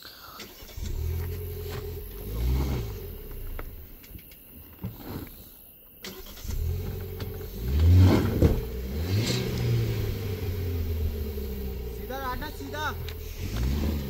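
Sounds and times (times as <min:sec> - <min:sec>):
car engine revving: 0:00.4 - 0:05.4, 0:06.0 - 0:14.0.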